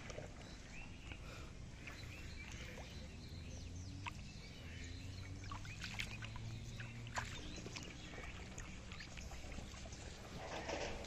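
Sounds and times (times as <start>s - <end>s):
muddy water splashing: 0.0s - 11.0s.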